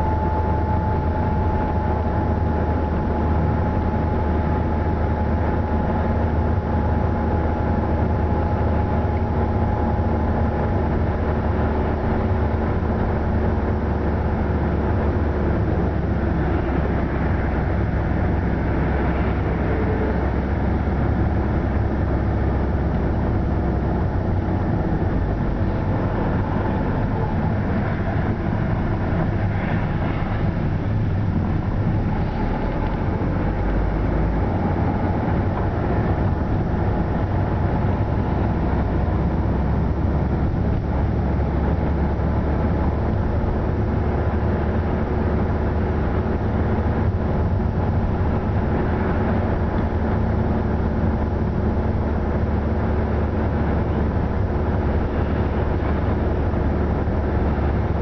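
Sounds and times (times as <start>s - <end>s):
car engine and tyre noise: 0.0s - 58.0s.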